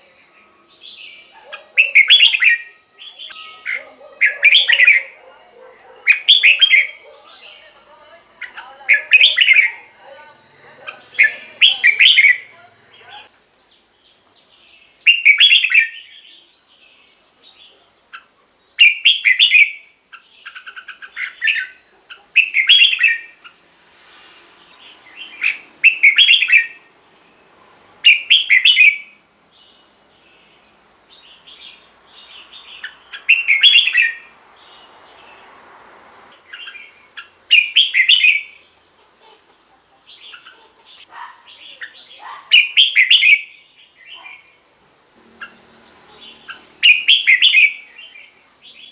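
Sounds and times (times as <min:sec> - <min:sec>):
bird song phrase: 0:00.0 - 0:23.6, 0:24.6 - 0:35.6, 0:36.4 - 0:48.9
soft bird chirps: 0:00.0 - 0:35.6, 0:36.4 - 0:48.9.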